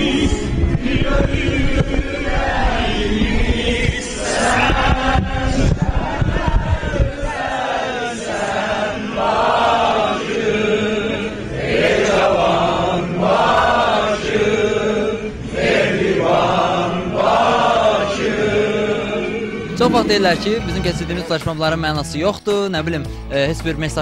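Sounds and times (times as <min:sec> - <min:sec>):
group singing in unison: 0:00.0 - 0:21.0.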